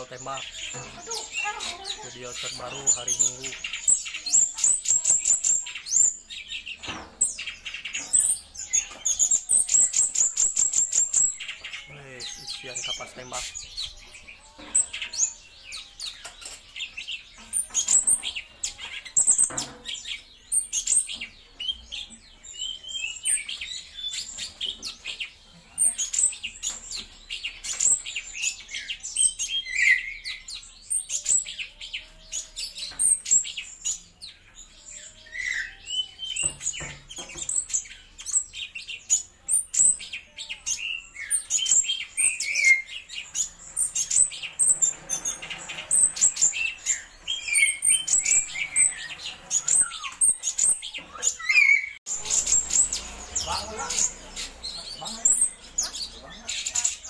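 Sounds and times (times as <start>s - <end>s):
bird singing chirps and trills: 0.0s - 57.0s.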